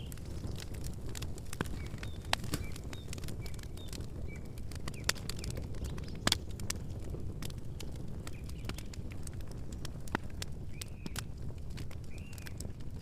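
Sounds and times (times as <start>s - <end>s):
campfire crackling: 0.0s - 13.0s
sharp snaps and pops: 0.0s - 13.0s.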